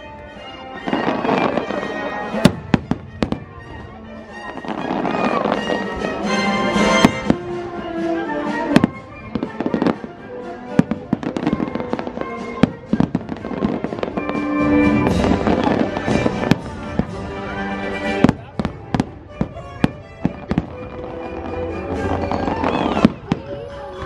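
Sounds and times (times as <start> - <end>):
fireworks bangs and crackles: 0.1 - 24.0
music on loudspeakers: 4.6 - 24.0.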